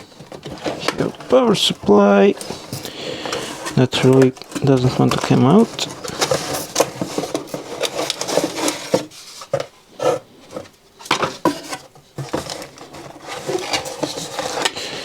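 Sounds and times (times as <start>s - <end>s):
cardboard box rustling and scraping: 0.0s - 14.8s.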